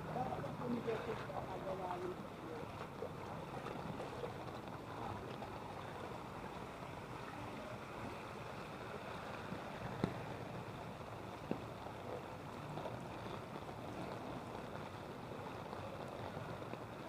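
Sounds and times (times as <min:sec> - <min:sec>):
person wading through water: 0:00.0 - 0:17.0.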